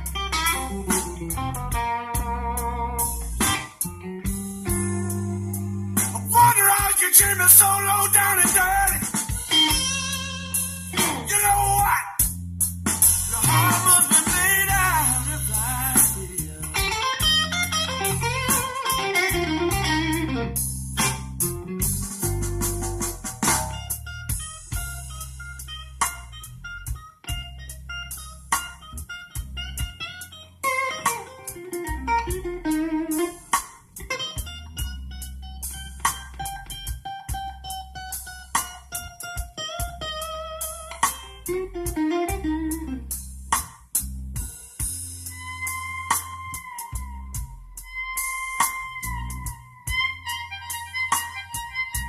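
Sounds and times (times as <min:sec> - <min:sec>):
guitar music on car stereo: 0:00.0 - 0:44.0, 0:44.8 - 0:52.0.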